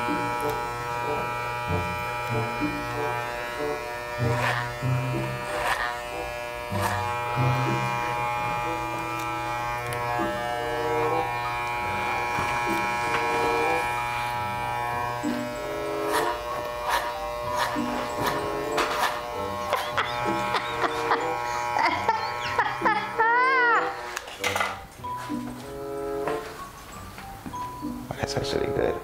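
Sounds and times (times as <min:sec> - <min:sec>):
electric hair clippers buzzing: 0:00.0 - 0:26.7
background music: 0:00.0 - 0:29.0.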